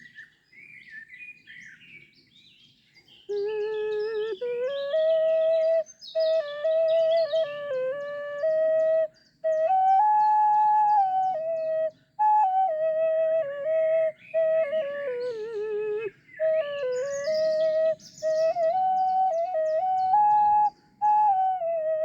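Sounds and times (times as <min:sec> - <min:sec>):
ocarina playing slow melody: 0:03.3 - 0:22.0.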